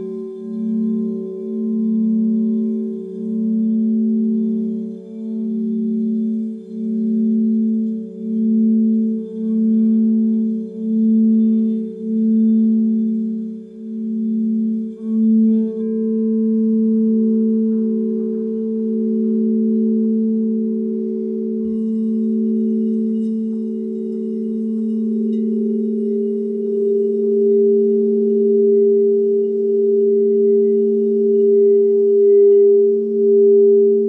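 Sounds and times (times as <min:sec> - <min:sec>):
singing bowl high tone: 0:00.0 - 0:34.0
singing bowl low tone: 0:00.0 - 0:34.0.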